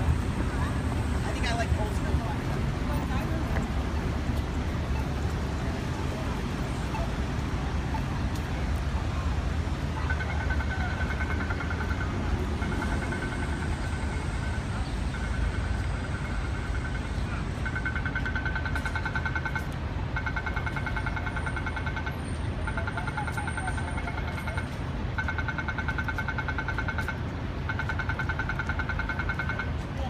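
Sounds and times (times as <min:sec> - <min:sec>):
city street traffic rumble: 0:00.0 - 0:30.0.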